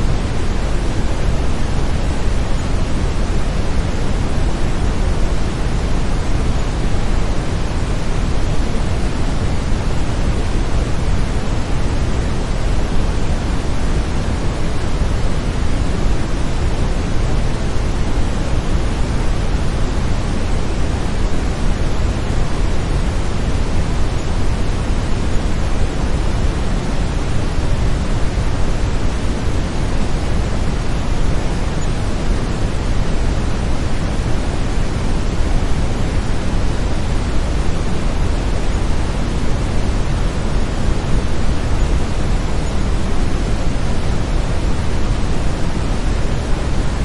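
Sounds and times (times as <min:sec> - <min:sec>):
deep steady hiss: 0:00.0 - 0:47.0.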